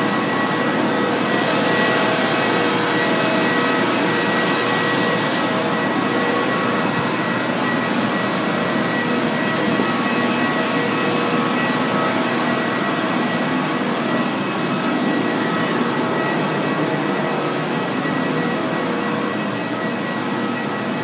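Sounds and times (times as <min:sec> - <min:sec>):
aircraft turbines roaring: 0:00.0 - 0:21.0
thin steady whine: 0:00.0 - 0:21.0.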